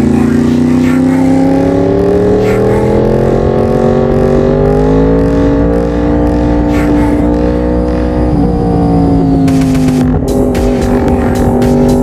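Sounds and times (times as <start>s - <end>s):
motorcycle engine revving up: 0.0s - 12.0s.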